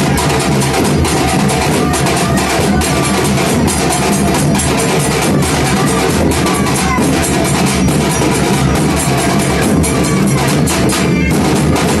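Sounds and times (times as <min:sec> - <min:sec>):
loud music with fast drumming: 0:00.0 - 0:12.0.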